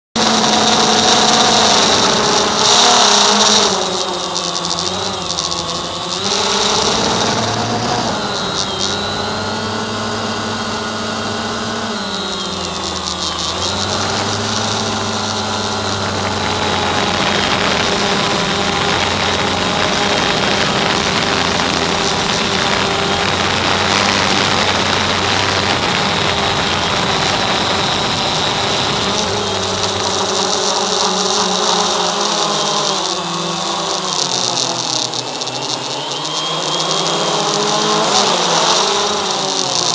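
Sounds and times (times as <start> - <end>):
drone propellers humming: 0.2 - 39.9.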